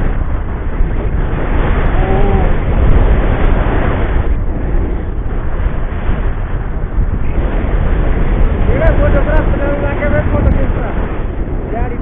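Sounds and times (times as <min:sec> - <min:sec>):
wind roaring over microphone: 0:00.0 - 0:12.0.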